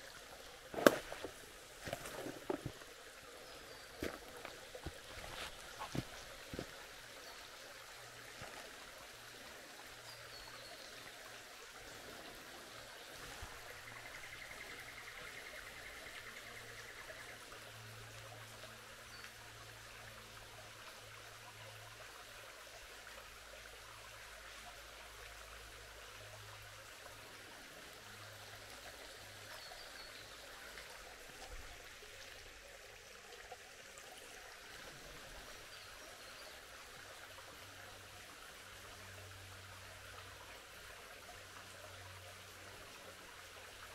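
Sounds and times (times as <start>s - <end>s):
creek water flowing: 0.0s - 43.9s.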